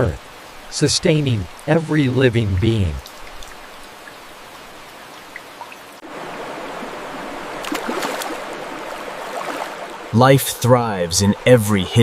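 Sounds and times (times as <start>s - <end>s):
water flowing: 0.0s - 12.0s.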